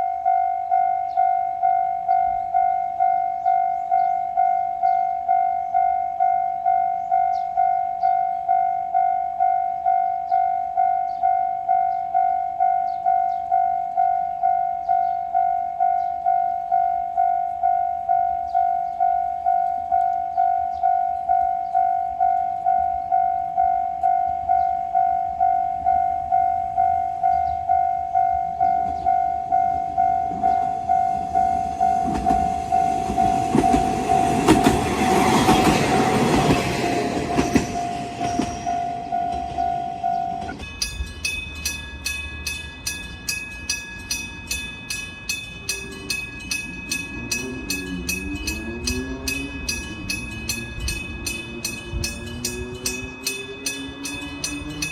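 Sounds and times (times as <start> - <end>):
passing train rumble: 0.0 - 54.9
railroad crossing bell ringing: 0.0 - 54.9.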